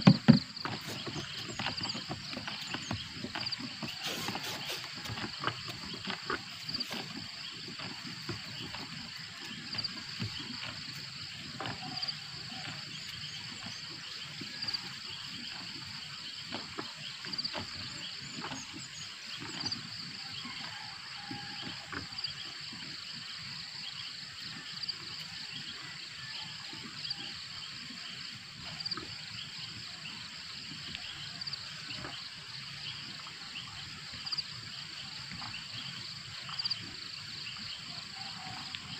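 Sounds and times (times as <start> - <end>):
insects and frogs chorus: 0.0 - 38.9.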